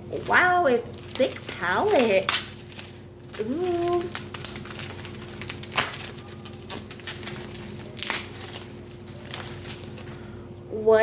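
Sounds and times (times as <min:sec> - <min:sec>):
faint steady hum: 0:00.0 - 0:11.0
bubble wrap crinkling: 0:00.1 - 0:10.7.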